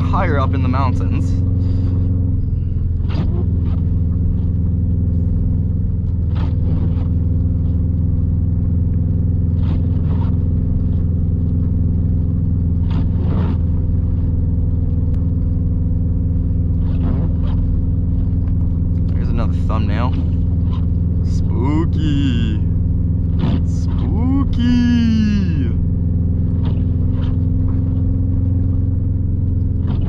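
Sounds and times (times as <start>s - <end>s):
car engine and road drone in cabin: 0.0s - 30.0s.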